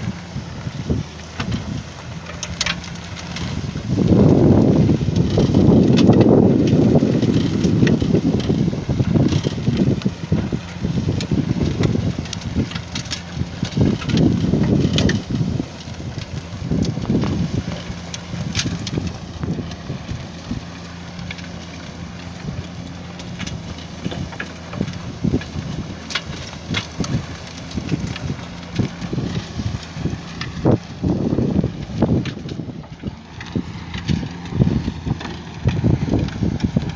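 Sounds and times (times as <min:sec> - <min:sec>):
truck engine running: 0:00.0 - 0:36.9
wind buffeting microphone: 0:00.0 - 0:36.9
sharp clicks and knocks: 0:01.1 - 0:36.9.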